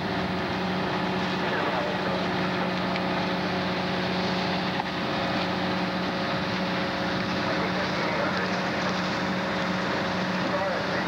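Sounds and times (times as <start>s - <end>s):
fire engine motor running: 0.0s - 11.0s.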